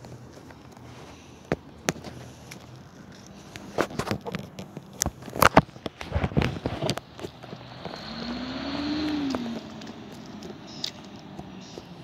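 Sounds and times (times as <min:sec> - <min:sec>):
footsteps crunching on gravel: 0:00.0 - 0:12.0
vehicle engine running: 0:00.0 - 0:12.0.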